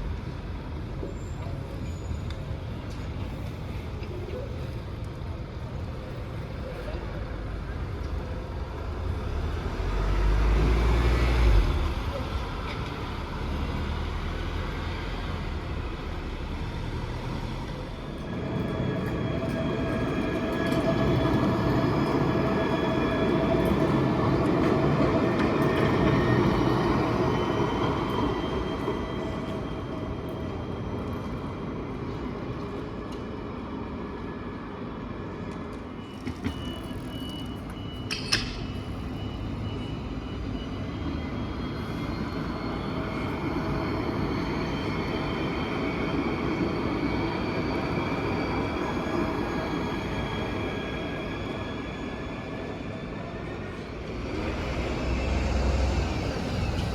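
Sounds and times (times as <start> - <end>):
wheels rumbling on rail: 0.0 - 56.9
tram motor whine: 7.3 - 56.9.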